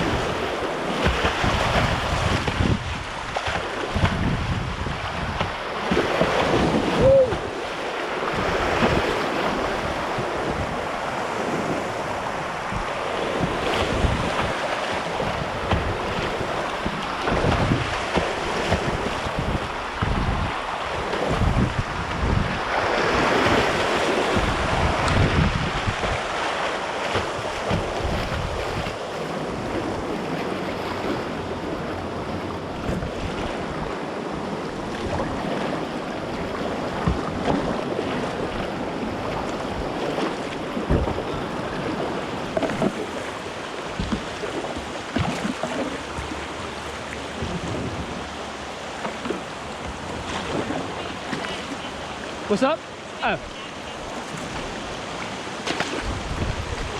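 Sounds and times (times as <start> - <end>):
wind buffeting microphone: 0.0 - 51.5, 54.0 - 56.9
whitewater rapids rushing: 0.0 - 56.9.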